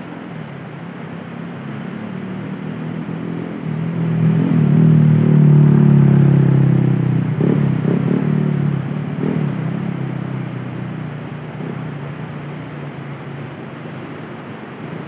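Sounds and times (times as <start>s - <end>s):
engine humming: 0.0s - 15.0s
river water rushing: 0.0s - 15.0s.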